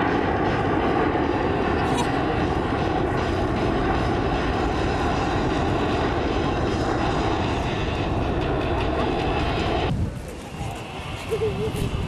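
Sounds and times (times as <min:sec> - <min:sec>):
jet engines rushing overhead: 0:00.0 - 0:12.0.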